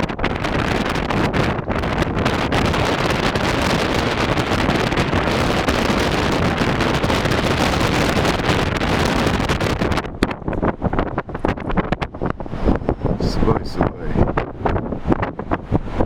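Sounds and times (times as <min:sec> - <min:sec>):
loud wind rushing: 0:00.0 - 0:16.0.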